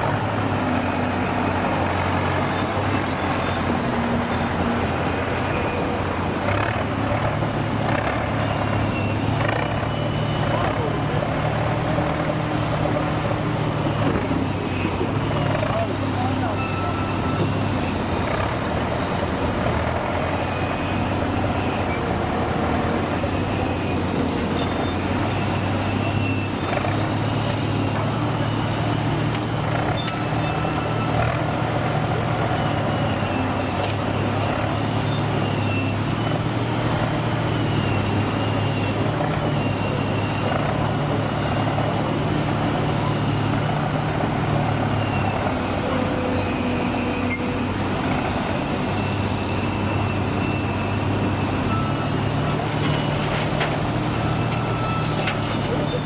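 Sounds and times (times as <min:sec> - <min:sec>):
heavy diesel engine humming: 0:00.0 - 0:56.0.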